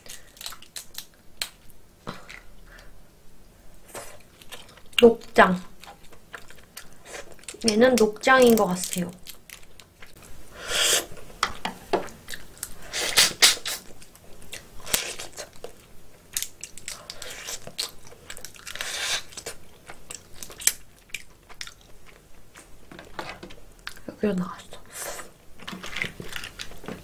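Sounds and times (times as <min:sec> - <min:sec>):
person chewing crab: 0:00.0 - 0:02.9, 0:03.8 - 0:05.1, 0:05.7 - 0:08.6, 0:09.2 - 0:10.2, 0:10.9 - 0:24.1, 0:25.2 - 0:27.0.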